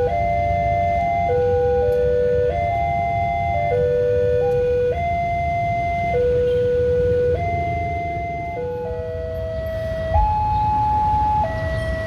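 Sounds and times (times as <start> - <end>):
level crossing warning alarm: 0.0 - 12.0.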